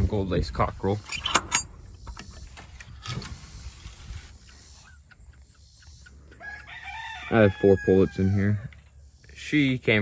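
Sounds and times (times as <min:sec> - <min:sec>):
chickens calling faintly: 0:01.7 - 0:09.8.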